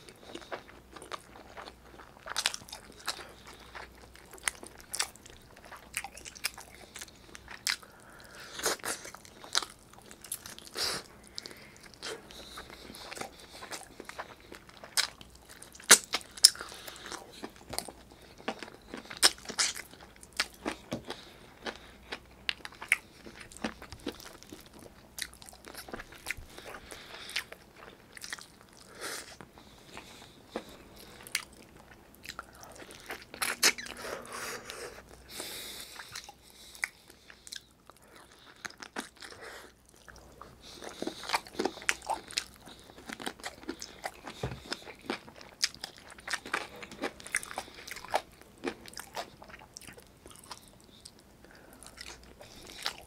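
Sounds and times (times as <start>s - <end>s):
close-miked chewing: 0.0s - 53.0s.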